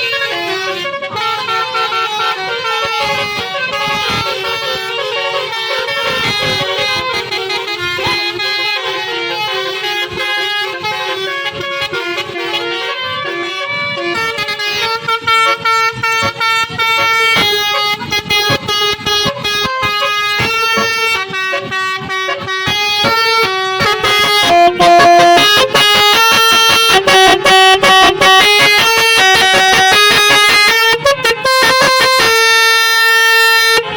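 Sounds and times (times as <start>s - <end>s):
musical bus air horn melody: 0.0s - 33.9s.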